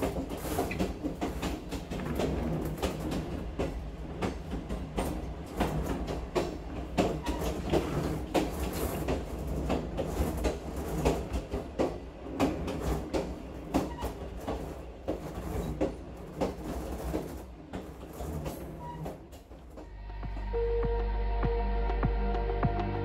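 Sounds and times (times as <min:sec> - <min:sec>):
wheels clicking over rail joints: 0:00.0 - 0:20.5
train rumbling: 0:00.0 - 0:23.0.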